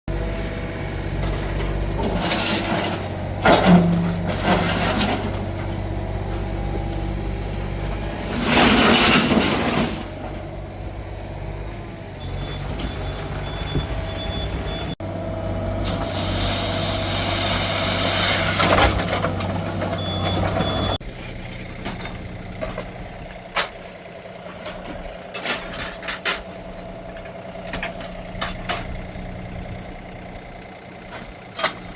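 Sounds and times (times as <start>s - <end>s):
large vehicle engine running: 0.1s - 31.9s.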